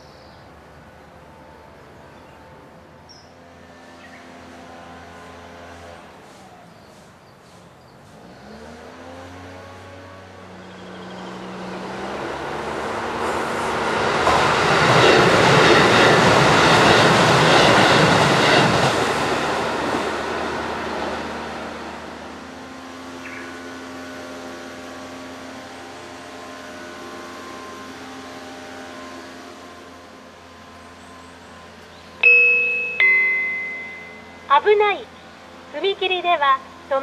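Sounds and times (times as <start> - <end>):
train passing on track: 0.0 - 37.0.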